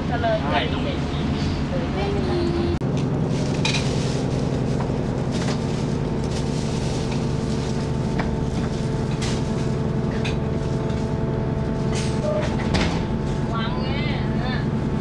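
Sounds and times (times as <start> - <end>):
diesel railcar engine running: 0.0 - 15.0.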